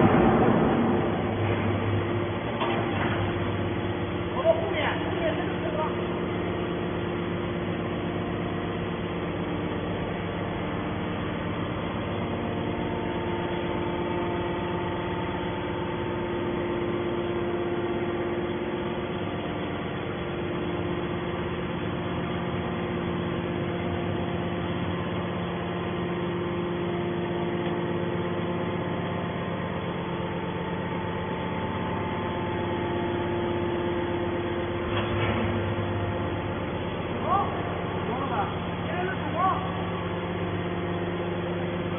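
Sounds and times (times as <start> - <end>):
hydraulic motor and pump hum: 0.0 - 41.9.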